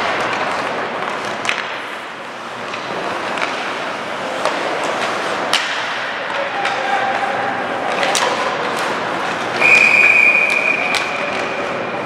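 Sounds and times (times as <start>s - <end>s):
hockey sticks and puck clacking: 0.0s - 12.0s
skates scraping ice: 0.0s - 12.0s.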